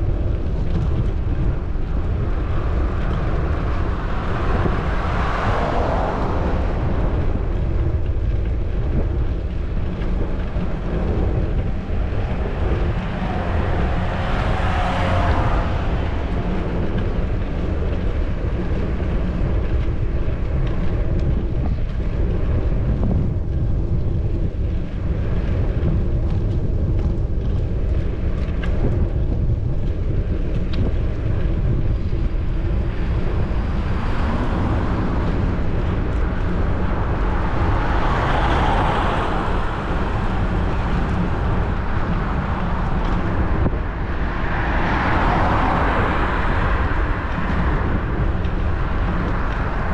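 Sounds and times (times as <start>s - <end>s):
road traffic passing: 0.0s - 22.8s, 27.2s - 49.9s
wind buffeting microphone: 0.0s - 49.9s.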